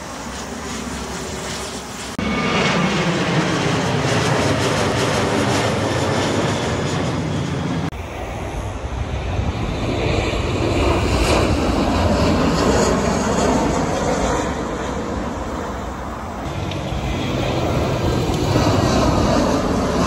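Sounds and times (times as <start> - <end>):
jet airliners roaring overhead: 0.0 - 20.0.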